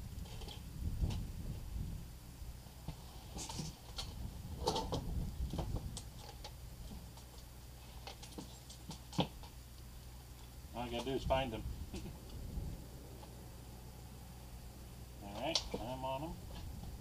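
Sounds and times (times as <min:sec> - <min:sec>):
steady low rumble: 0:00.0 - 0:08.1, 0:09.0 - 0:17.0.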